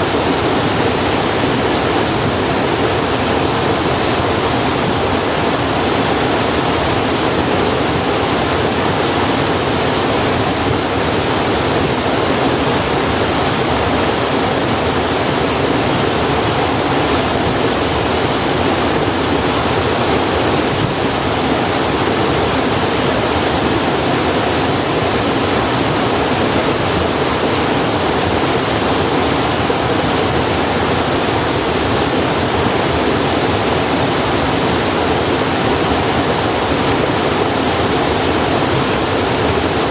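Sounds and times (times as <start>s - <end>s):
loud steady rushing noise: 0.0s - 39.9s.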